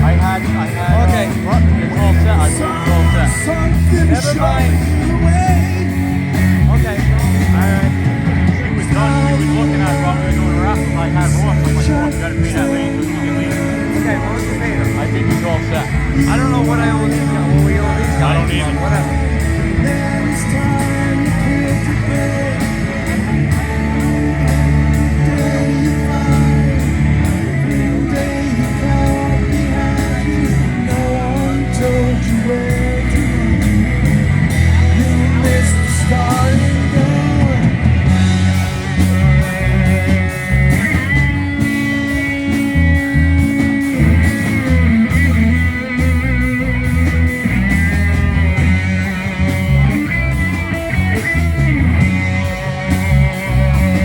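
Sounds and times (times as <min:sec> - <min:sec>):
electric guitar: 0:00.0 - 0:54.0
steady drum beat: 0:00.0 - 0:54.0.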